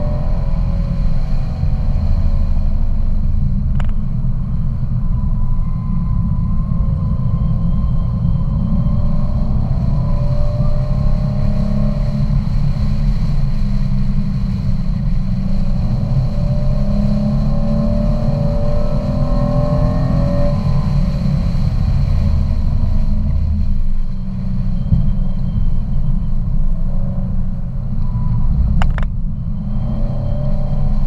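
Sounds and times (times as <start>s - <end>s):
car engine accelerating: 0.0s - 31.0s
road and wind rumble: 0.0s - 31.0s.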